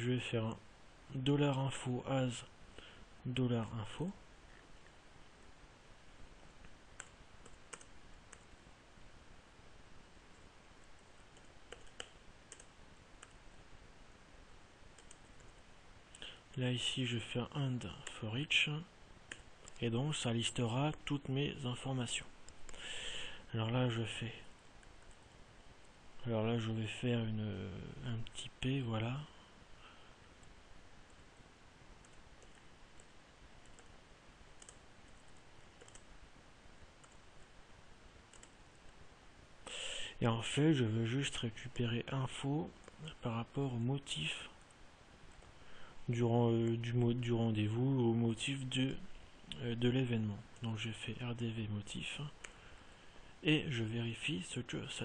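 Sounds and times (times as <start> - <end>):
room hiss: 0.0 - 55.0.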